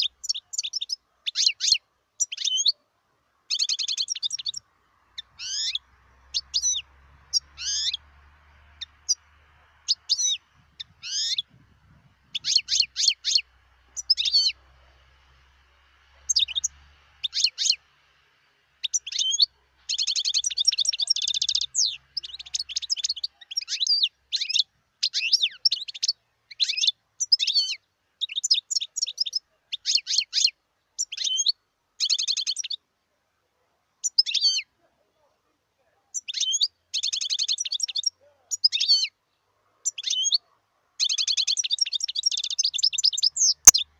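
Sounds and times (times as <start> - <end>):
goldfinch singing: 0.0 - 2.8, 3.5 - 17.9, 18.8 - 32.8, 34.0 - 34.7, 36.2 - 39.2, 39.8 - 43.9.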